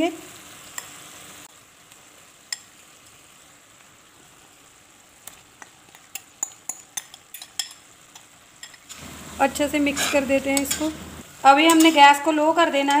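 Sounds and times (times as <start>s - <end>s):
gravy simmering with faint sizzle: 0.0s - 11.6s.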